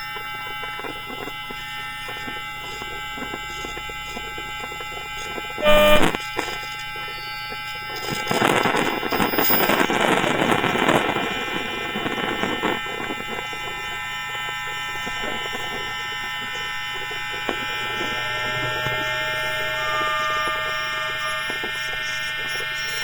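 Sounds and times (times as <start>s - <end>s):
crackling hiss: 0.0s - 23.0s
electrical whine of train motors: 0.0s - 23.0s.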